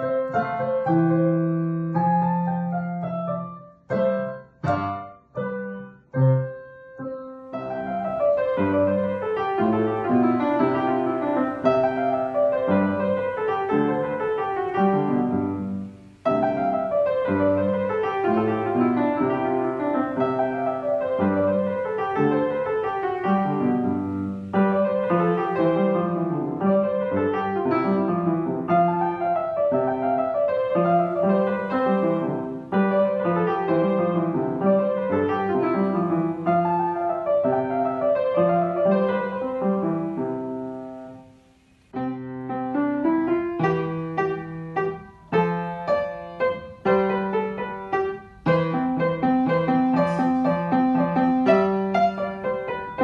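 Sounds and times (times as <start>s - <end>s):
digital piano piece: 0.0s - 53.0s
upright piano played lively: 0.0s - 53.0s.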